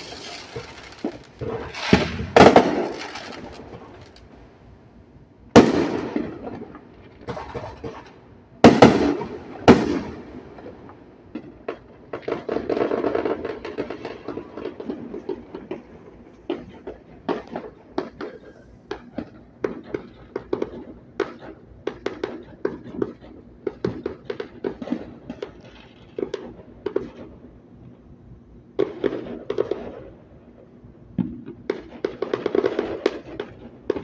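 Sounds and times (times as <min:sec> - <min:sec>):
distant fireworks popping and banging: 0:00.0 - 0:04.5, 0:05.5 - 0:28.1, 0:28.7 - 0:34.0.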